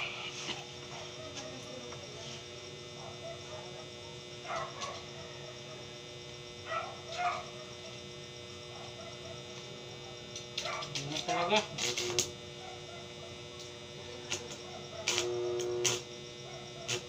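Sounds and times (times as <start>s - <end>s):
arc welding machine humming: 0.0s - 17.0s.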